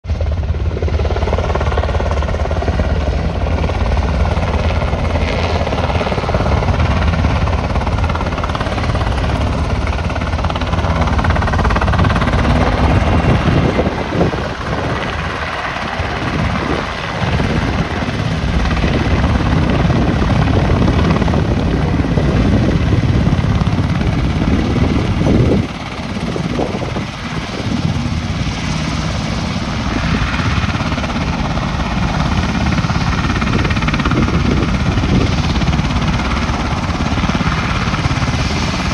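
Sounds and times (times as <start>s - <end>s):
turbine engine whine: 0.0s - 38.9s
helicopter rotors beating: 0.1s - 38.9s.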